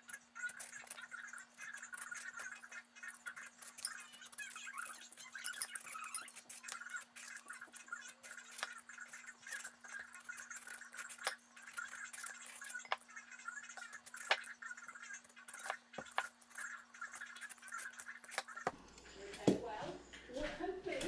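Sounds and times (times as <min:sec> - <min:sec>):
peeler scraping watermelon skin: 0:00.1 - 0:18.8.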